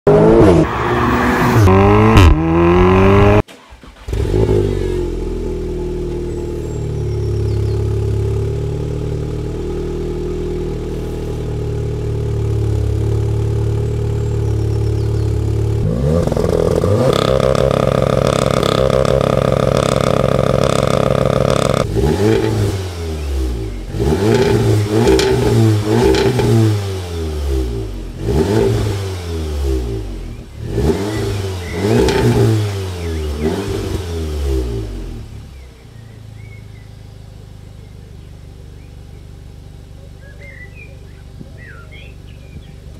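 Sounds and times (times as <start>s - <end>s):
car engine revving: 0.0s - 40.0s
car engine idling: 3.5s - 42.9s.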